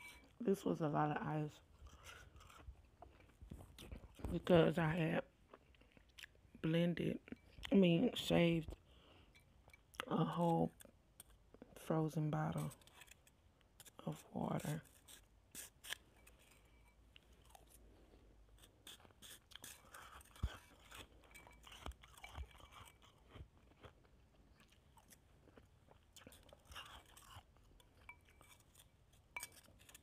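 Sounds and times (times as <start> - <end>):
chewing and crunching ice: 1.6 - 6.6, 8.7 - 30.0.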